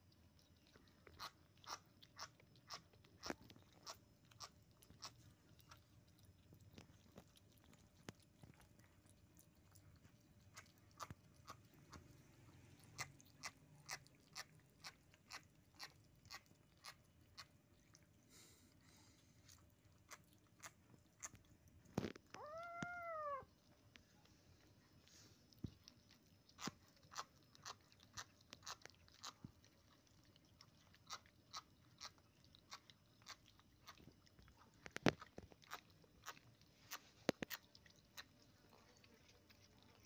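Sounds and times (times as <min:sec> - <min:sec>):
kittens chewing wetly: 0:00.0 - 0:40.0.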